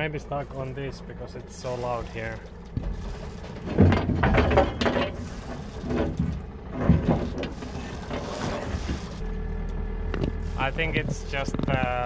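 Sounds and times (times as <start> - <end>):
boat propeller drive running: 0.0 - 12.0
propeller knocking and rattling: 0.0 - 12.0.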